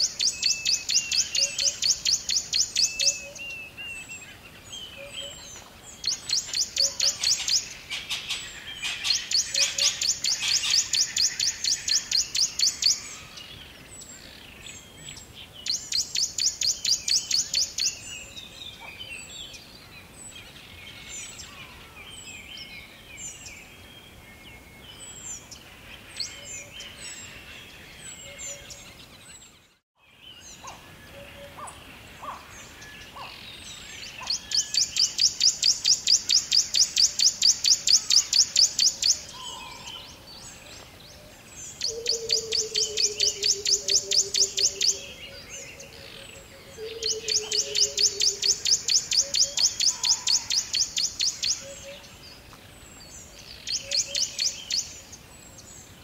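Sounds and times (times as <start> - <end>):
birds chirping and whistling: 0.0 - 19.6, 20.2 - 55.9.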